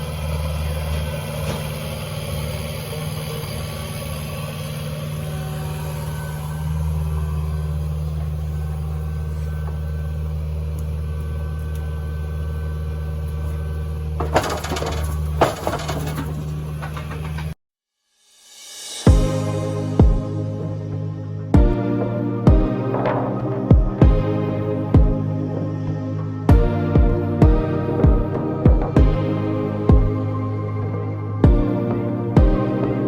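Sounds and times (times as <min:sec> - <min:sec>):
excavator diesel engine running: 0:00.0 - 0:17.6, 0:19.1 - 0:33.0.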